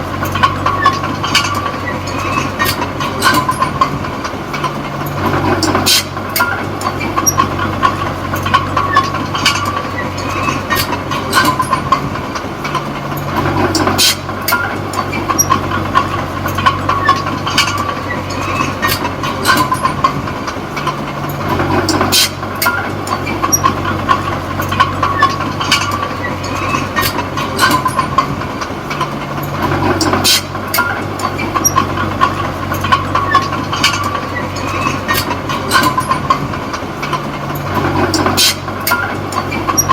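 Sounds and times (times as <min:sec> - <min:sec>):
bulldozer diesel engine running: 0:00.0 - 0:39.9
clanking tracks: 0:00.0 - 0:39.9
steady whine: 0:00.0 - 0:39.9.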